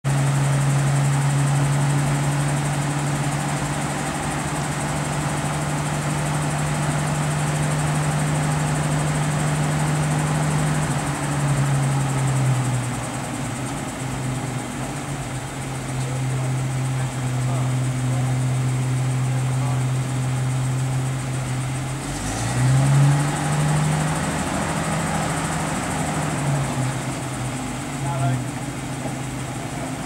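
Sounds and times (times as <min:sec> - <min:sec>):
heavy vehicle engine idling: 0:00.1 - 0:30.0.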